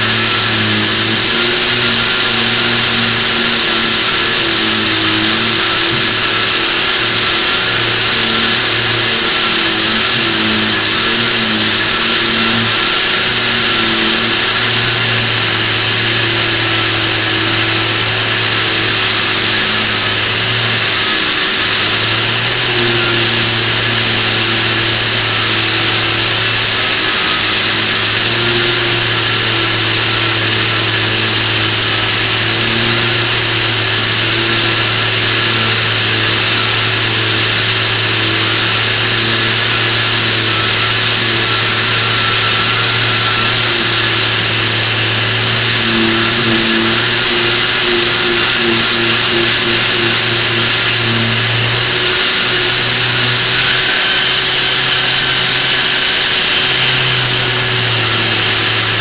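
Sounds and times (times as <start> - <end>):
orbital sander on wood: 0.0 - 59.0.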